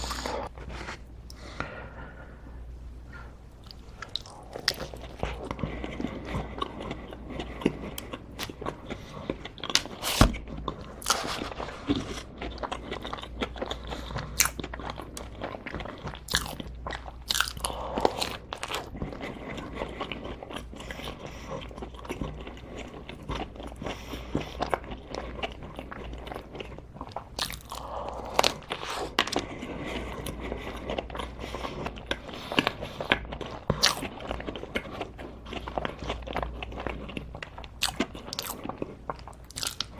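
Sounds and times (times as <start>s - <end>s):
person chewing crunchy food: 0.0s - 1.5s, 3.4s - 39.9s.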